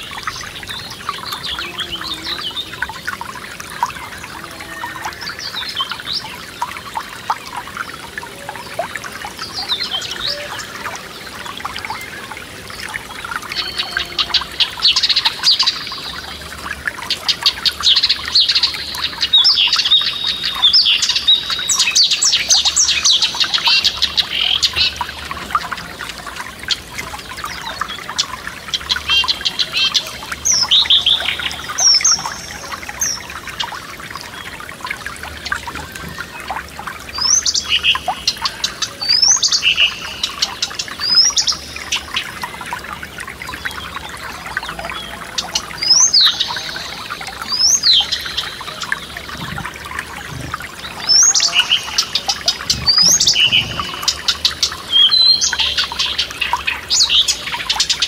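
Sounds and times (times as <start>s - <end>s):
songbirds singing: 0.0s - 58.0s
stream trickling over stones: 0.0s - 58.0s.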